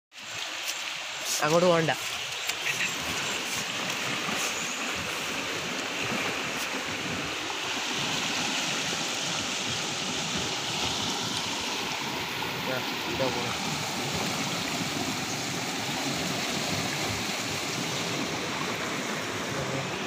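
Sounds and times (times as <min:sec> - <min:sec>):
flood water rushing: 0:00.1 - 0:20.0.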